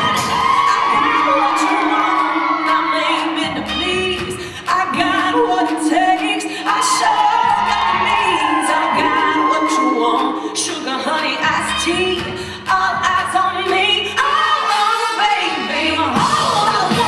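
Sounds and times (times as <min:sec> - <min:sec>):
song with lead singer: 0:00.0 - 0:17.0.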